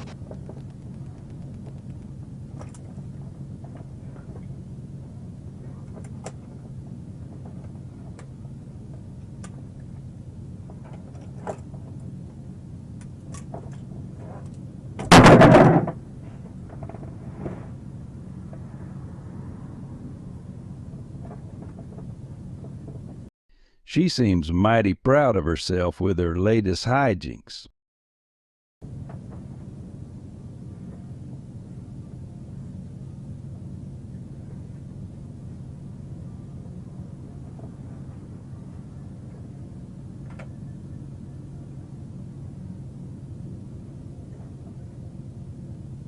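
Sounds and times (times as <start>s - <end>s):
steady low hum: 0.0s - 27.7s, 28.8s - 46.0s.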